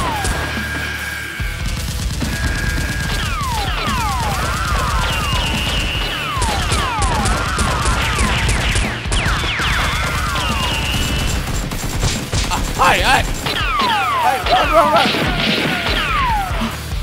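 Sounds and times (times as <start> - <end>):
background music: 0.0 - 17.0
rapid gunfire sound effects: 0.0 - 17.0.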